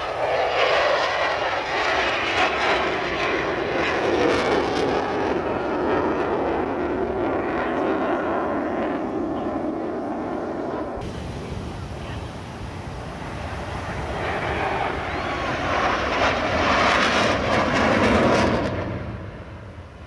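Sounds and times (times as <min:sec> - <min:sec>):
jet aircraft roaring past: 0:00.0 - 0:20.0.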